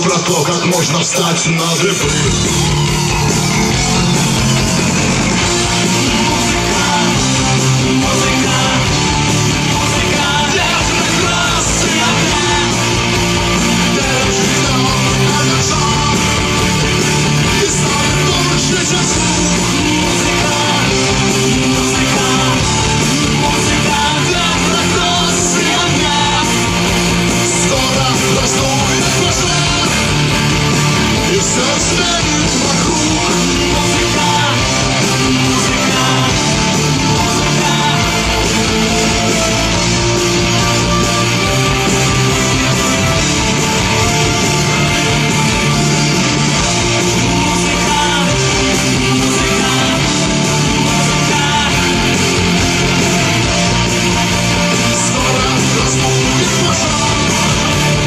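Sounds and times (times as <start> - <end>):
electric guitars: 0.0 - 58.0
live rock band: 0.0 - 58.0.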